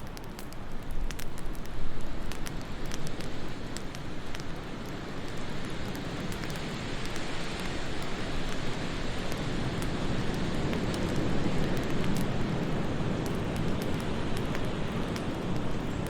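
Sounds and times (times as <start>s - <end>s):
steady wind: 0.0s - 16.0s
wood fire crackles: 0.0s - 16.0s.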